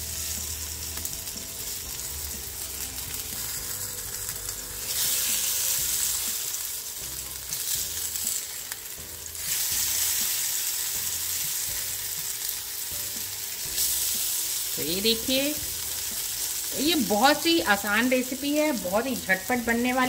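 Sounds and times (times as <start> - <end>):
eggplant slices sizzling in oil: 0.0 - 20.0.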